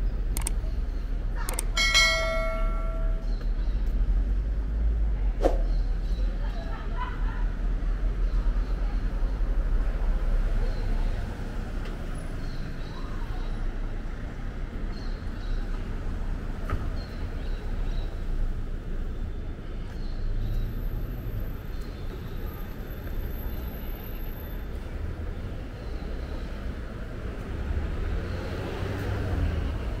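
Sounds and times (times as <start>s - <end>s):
passing road traffic rumble: 0.0s - 30.0s.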